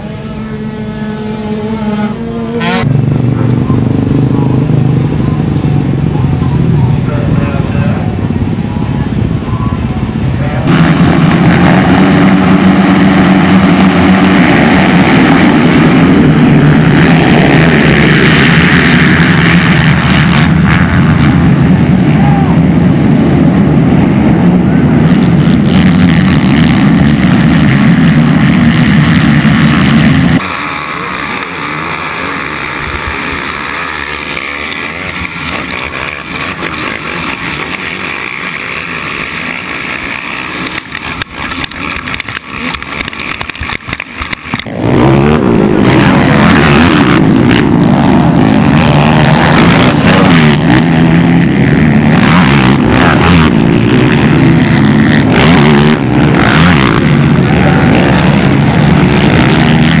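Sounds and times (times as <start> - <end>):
racing quad engines running hard: 0.0 - 60.0.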